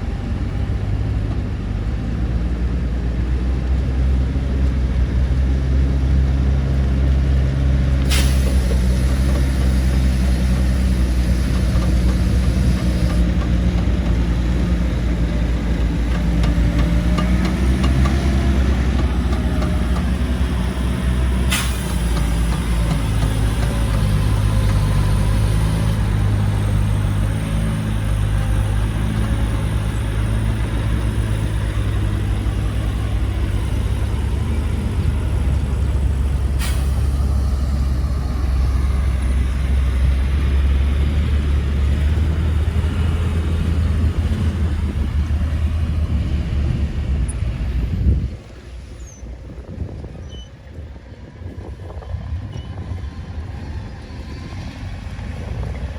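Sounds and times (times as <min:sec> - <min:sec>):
heavy diesel engines droning: 0:00.0 - 0:55.9.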